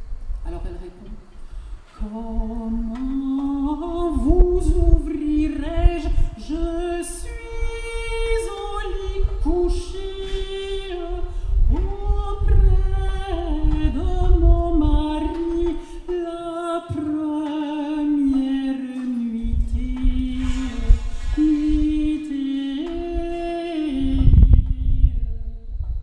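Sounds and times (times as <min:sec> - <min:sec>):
wind buffeting microphone: 0:00.0 - 0:17.1, 0:18.0 - 0:26.0
woman singing solo: 0:02.0 - 0:25.7.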